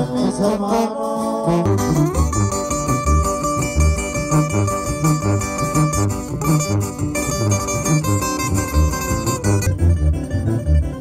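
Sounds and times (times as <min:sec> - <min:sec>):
sousaphone bass line: 0:00.0 - 0:11.0
strummed acoustic guitars: 0:00.0 - 0:11.0.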